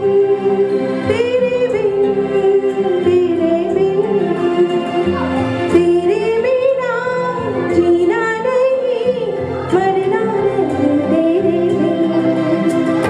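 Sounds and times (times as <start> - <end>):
held instrumental accompaniment: 0.0 - 13.0
woman singing: 0.0 - 13.0.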